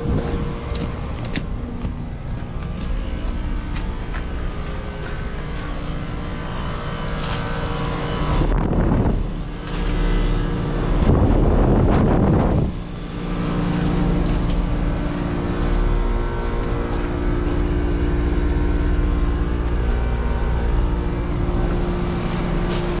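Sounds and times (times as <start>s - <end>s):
heat pump compressor and fan hum: 0.0s - 23.0s.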